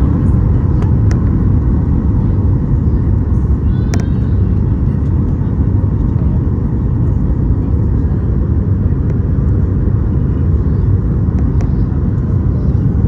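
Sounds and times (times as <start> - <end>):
airliner low rumble: 0.0 - 13.0.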